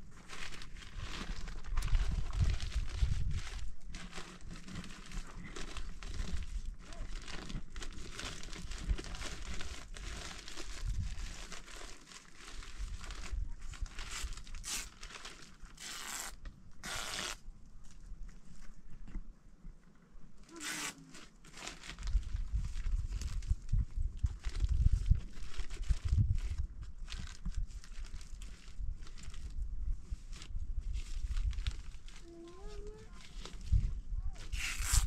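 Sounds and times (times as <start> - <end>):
crackling handling noise: 0.0 - 29.6.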